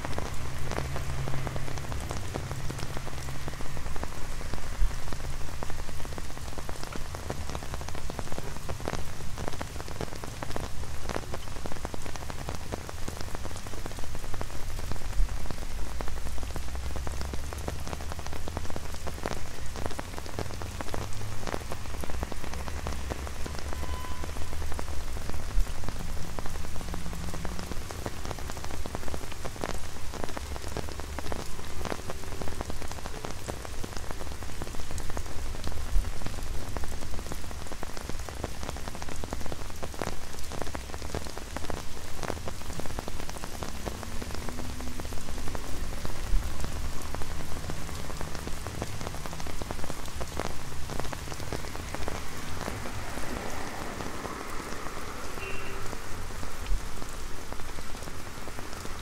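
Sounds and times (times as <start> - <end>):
low rumble of street traffic: 0.0 - 59.0
rain ticking on umbrella: 0.0 - 59.0.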